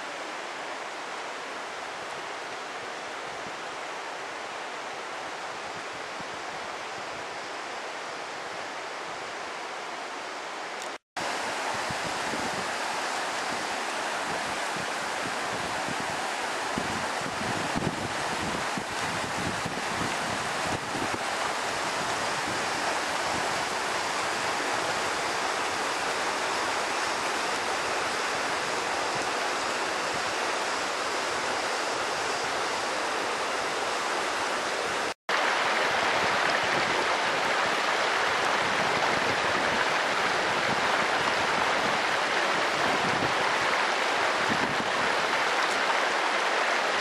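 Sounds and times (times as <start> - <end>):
stream running over stones: 0.0 - 47.0.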